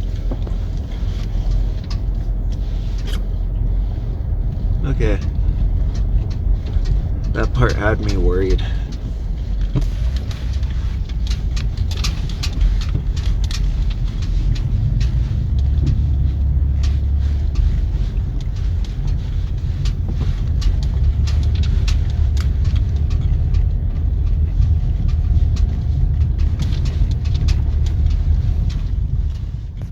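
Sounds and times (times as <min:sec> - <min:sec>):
sharp clicks and rattles: 0:00.0 - 0:29.9
vehicle engine and tyres rumbling: 0:00.0 - 0:29.9.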